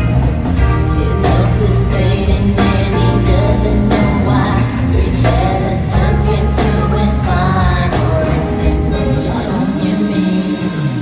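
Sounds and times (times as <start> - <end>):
live band playing pop: 0.0 - 11.0
women singing: 0.8 - 11.0.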